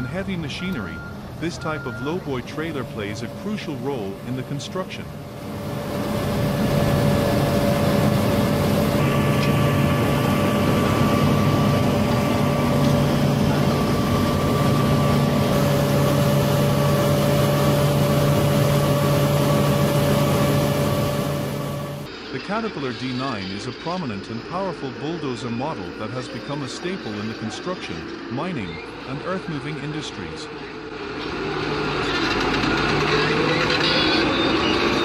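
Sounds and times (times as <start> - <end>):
diesel engine under load: 0.0 - 22.2, 23.9 - 35.0
thin steady whine: 0.0 - 31.0.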